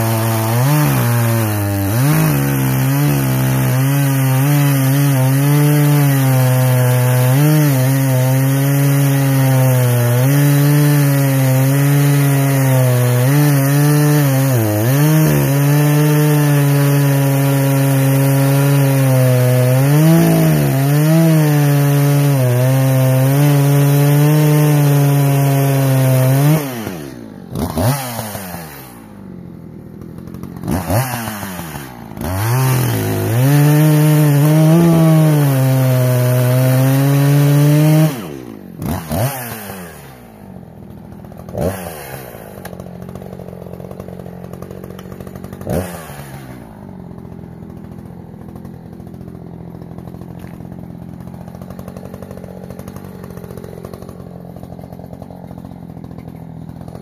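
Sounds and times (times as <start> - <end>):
chainsaw cutting wood: 0.0 - 57.0
chainsaw idling: 0.0 - 57.0.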